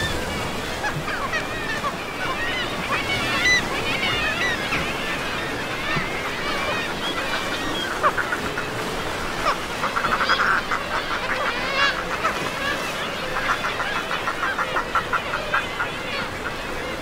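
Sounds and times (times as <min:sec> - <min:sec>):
seabirds calling harshly: 0:00.0 - 0:17.0.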